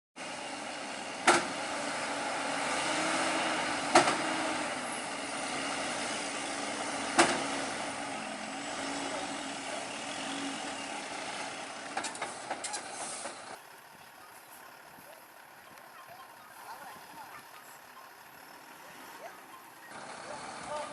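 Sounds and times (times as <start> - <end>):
truck engine running: 0.2 - 20.9.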